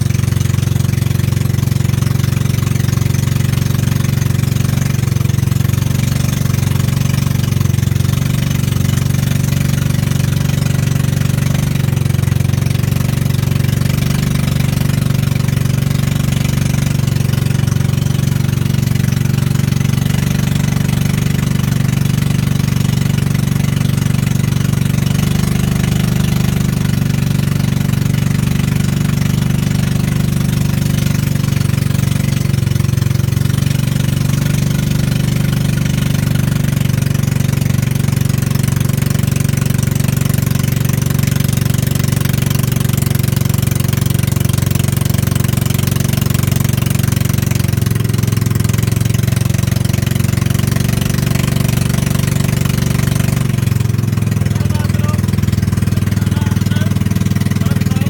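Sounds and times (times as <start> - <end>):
motorboat engine humming: 0.0 - 58.0.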